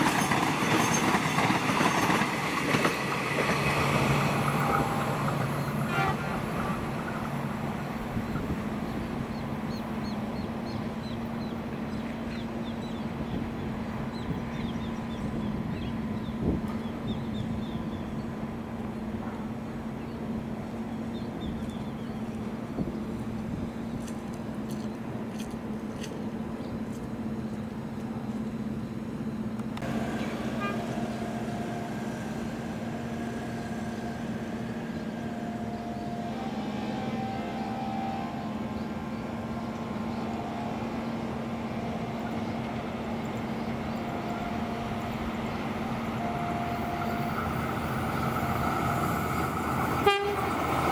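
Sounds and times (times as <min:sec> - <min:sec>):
diesel railcar drone: 0:00.0 - 0:50.9
distant electric train rumble: 0:00.0 - 0:50.9.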